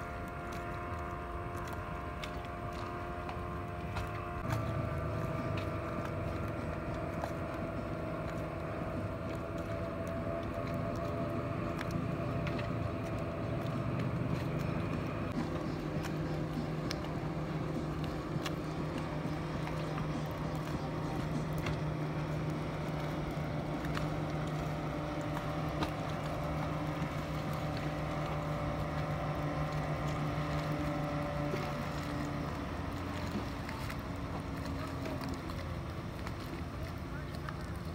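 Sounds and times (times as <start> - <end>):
outboard engine running: 0.0 - 37.9.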